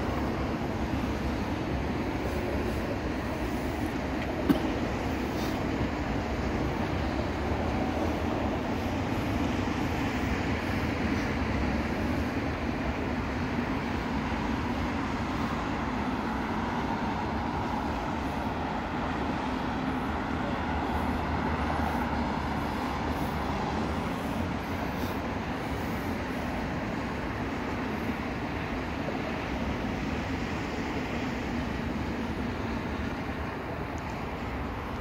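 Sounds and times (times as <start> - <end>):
distant freeway traffic rumble: 0.0 - 35.0.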